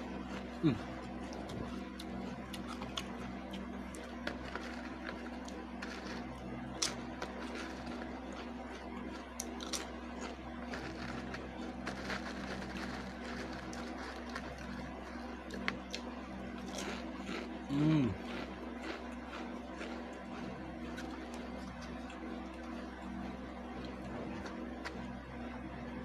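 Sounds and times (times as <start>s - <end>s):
chewing crisp potato chips: 0.0s - 25.5s
steady low hum: 0.0s - 26.0s.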